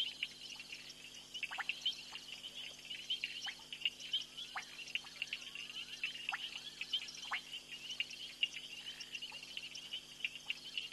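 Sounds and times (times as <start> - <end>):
frogs chirping: 0.0 - 10.9.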